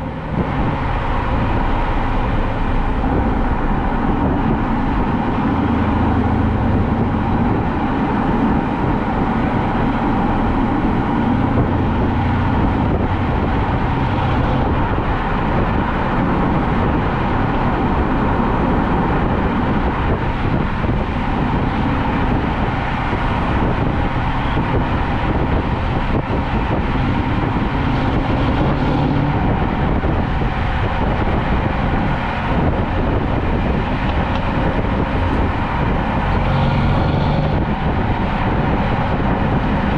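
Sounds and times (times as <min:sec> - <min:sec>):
car exhaust drone: 0:00.0 - 0:39.9
road and tyre noise: 0:00.0 - 0:39.9.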